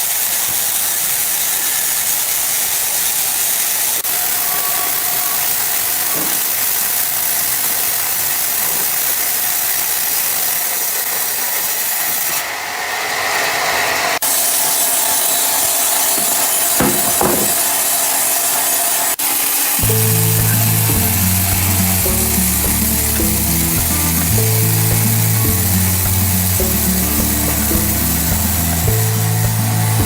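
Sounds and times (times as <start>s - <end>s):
saw cutting through log: 0.0s - 30.0s.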